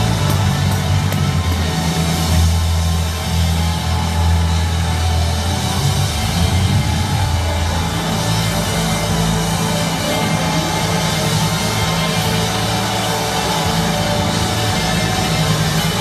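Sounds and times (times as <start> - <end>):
church band praise music: 0.0 - 16.0
heavy bass line: 0.0 - 16.0.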